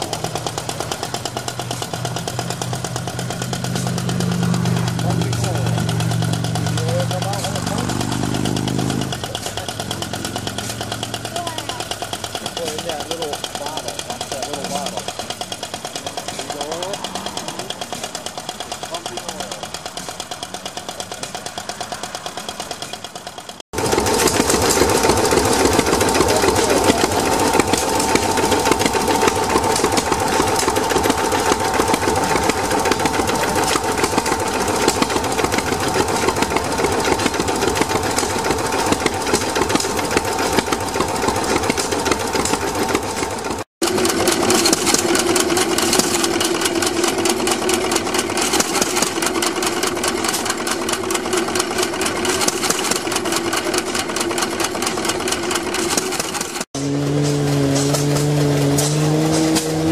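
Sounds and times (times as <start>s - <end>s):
flywheels spinning: 0.0s - 58.6s
stationary gas engine running: 0.0s - 59.9s.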